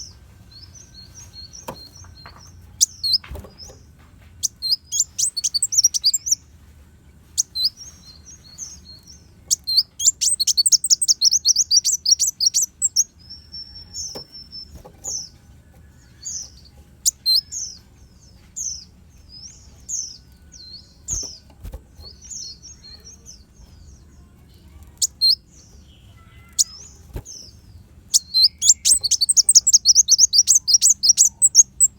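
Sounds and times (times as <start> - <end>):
bird twittering trills: 0.0 - 3.8, 4.4 - 6.5, 7.3 - 31.9.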